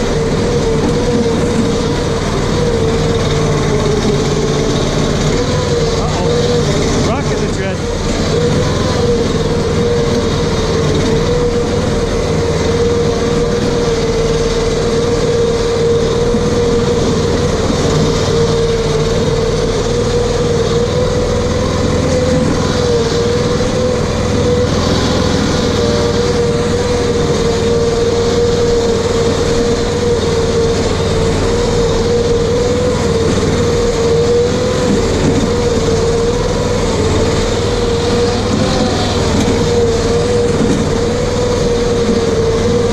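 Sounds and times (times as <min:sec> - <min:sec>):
off-road vehicle engine running: 0:00.0 - 0:42.9.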